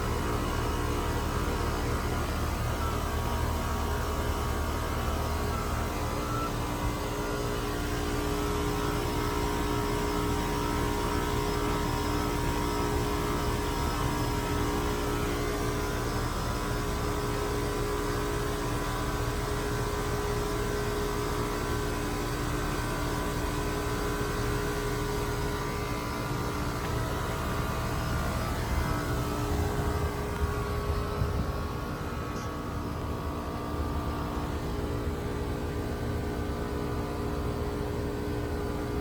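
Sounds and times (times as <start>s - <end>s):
heat pump compressor hum: 0.0s - 39.0s.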